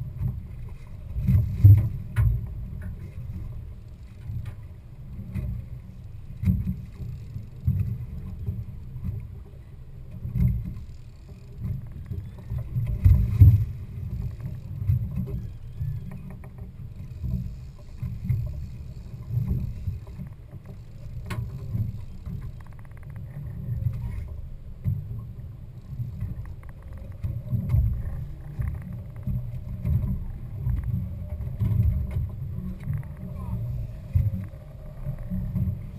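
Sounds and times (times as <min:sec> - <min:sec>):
fishing boat engine rumble: 0:00.0 - 0:35.9.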